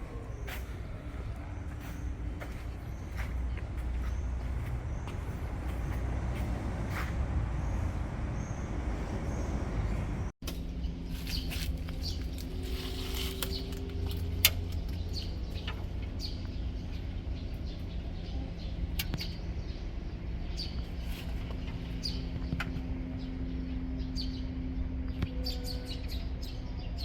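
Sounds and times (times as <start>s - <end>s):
engine running low rumble: 0.0s - 27.0s.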